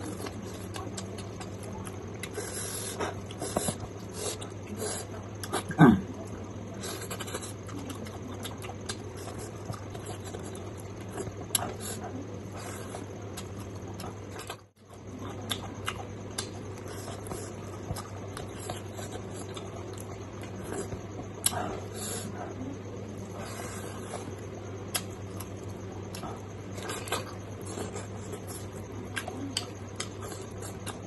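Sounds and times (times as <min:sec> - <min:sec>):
person chewing and lip-smacking: 0:00.0 - 0:31.0
steady low hum: 0:00.0 - 0:31.0.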